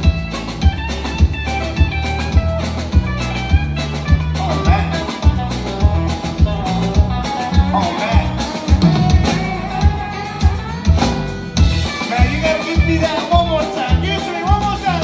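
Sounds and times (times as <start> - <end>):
drum kit beat: 0.0 - 15.0
live country band playing: 0.0 - 15.0.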